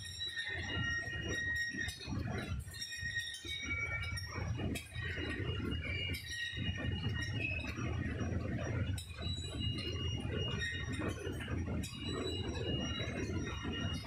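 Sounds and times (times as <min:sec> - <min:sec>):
high conveyor squeaks: 0:00.0 - 0:14.0.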